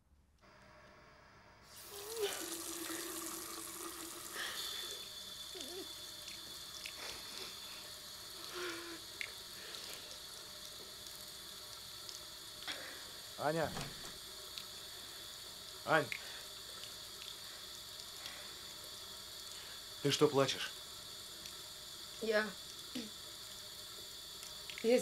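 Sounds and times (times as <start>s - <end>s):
tap water running into basin: 1.7s - 25.0s.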